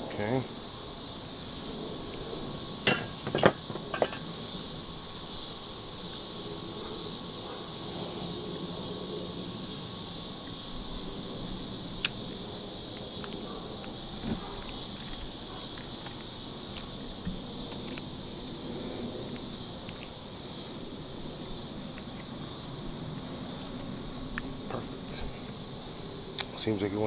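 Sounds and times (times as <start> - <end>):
insects buzzing: 0.0 - 27.0.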